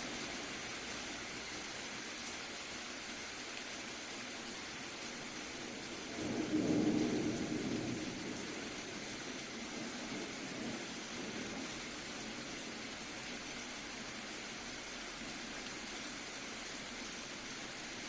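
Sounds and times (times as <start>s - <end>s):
soft rain hissing: 0.0s - 18.0s.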